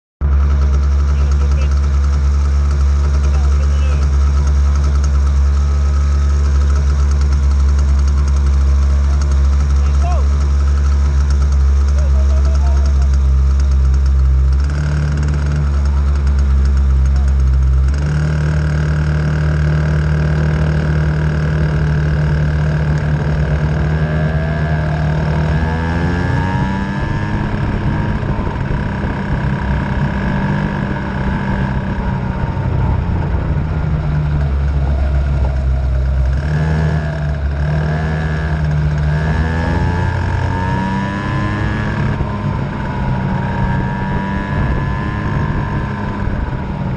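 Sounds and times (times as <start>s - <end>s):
racing engine revving: 0.2s - 46.9s
steady low drone: 0.2s - 46.9s.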